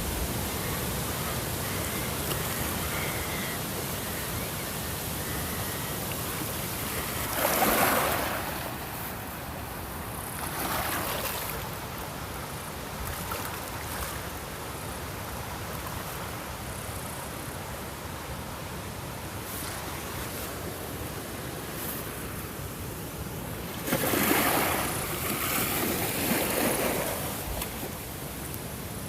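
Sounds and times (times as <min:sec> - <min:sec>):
ocean waves breaking: 0:00.0 - 0:14.6, 0:18.8 - 0:29.0
surf wash: 0:00.0 - 0:29.0.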